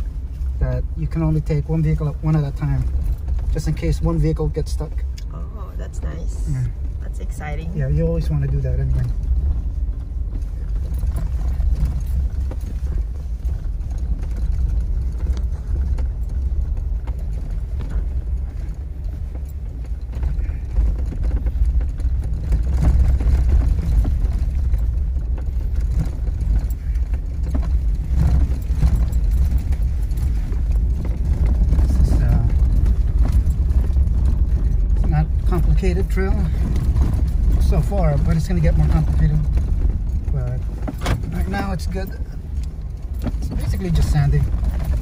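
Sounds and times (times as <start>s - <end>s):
engine and tyre rumble: 0.0s - 45.0s
knocks and rattles: 0.0s - 45.0s.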